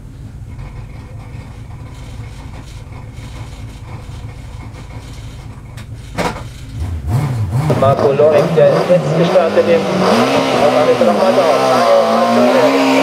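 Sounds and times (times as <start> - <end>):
racing engine idling: 0.0 - 13.0.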